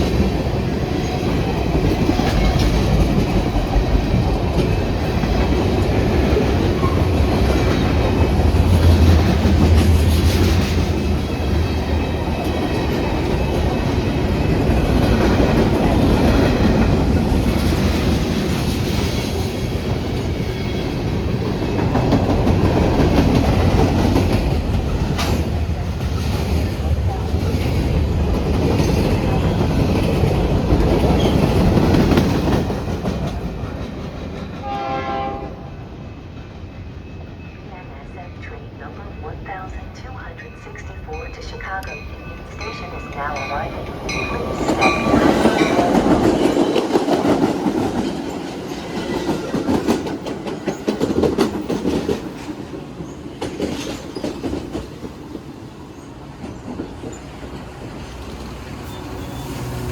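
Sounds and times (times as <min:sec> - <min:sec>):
train wheels rumbling on rails: 0:00.0 - 0:37.8, 0:39.3 - 0:59.9.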